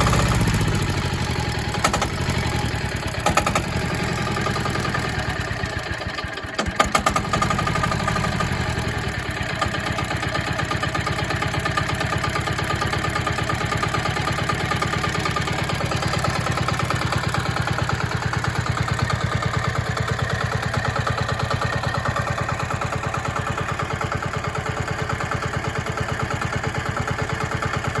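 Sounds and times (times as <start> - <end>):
mini excavator engine running: 0.0 - 28.0.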